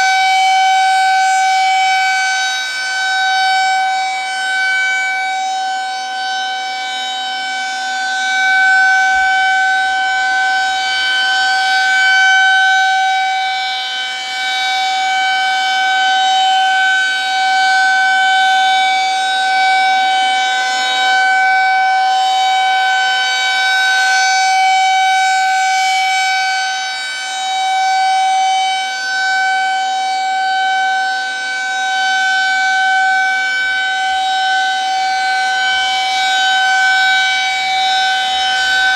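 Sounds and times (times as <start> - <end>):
rotating warning siren tone: 0.0 - 38.9.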